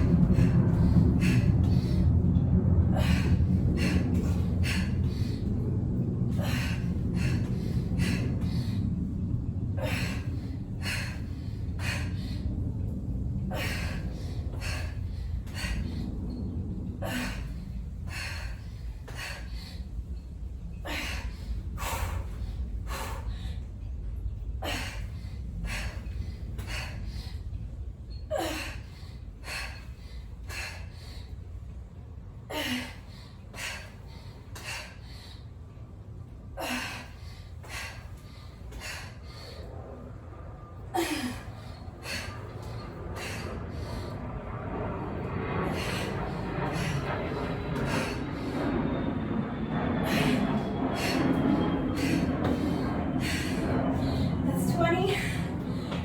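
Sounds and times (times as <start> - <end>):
steady low hum: 0.0 - 56.0
woman breathing hard: 0.0 - 56.0.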